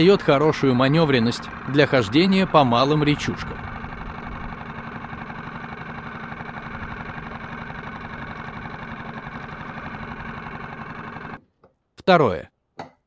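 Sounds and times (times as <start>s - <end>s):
outboard motor running: 0.0s - 11.4s.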